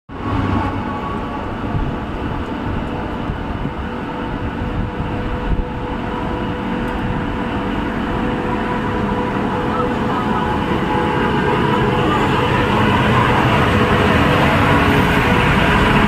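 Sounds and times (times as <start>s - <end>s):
train rumbling in motion: 0.1s - 16.0s.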